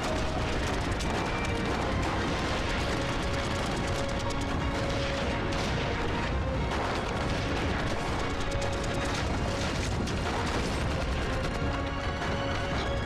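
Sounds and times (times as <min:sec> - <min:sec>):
dramatic orchestral score: 0:00.0 - 0:13.0
rapid irregular crackling: 0:00.0 - 0:13.0.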